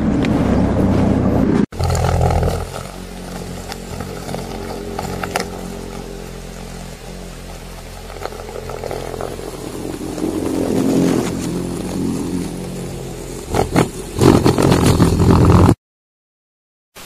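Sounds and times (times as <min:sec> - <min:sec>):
low drone: 0:00.0 - 0:15.8.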